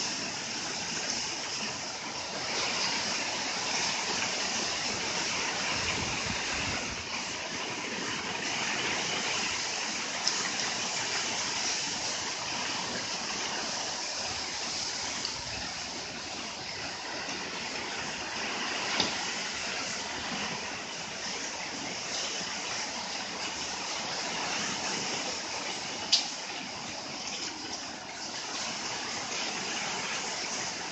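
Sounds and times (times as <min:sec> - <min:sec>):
wind and rain rushing: 0:00.0 - 0:30.9.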